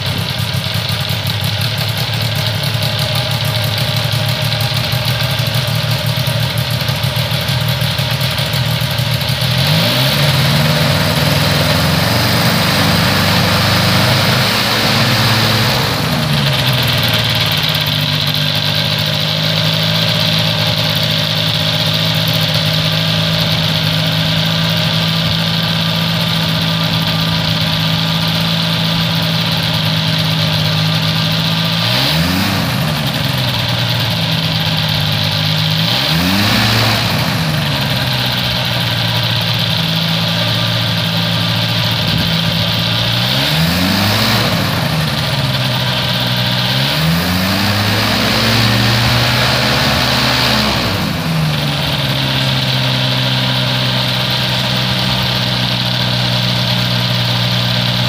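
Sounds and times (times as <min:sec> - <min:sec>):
engine idling: 0:00.0 - 0:58.0
engine throttle blips: 0:00.0 - 0:58.0.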